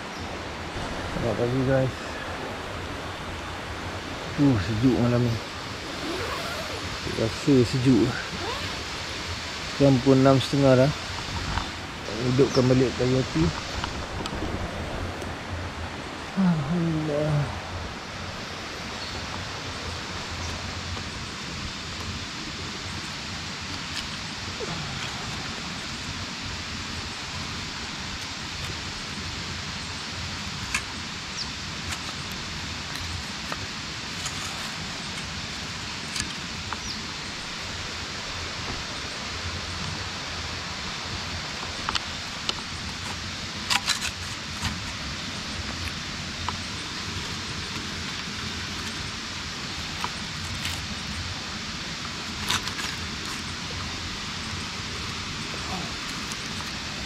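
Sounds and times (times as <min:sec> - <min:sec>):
flowing river water: 0:00.0 - 0:57.0.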